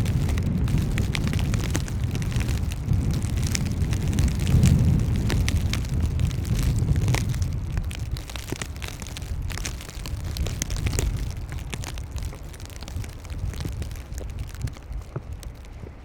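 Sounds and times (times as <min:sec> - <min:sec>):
footsteps crunching in snow: 0:00.0 - 0:16.0
wind buffeting microphone: 0:00.0 - 0:16.0.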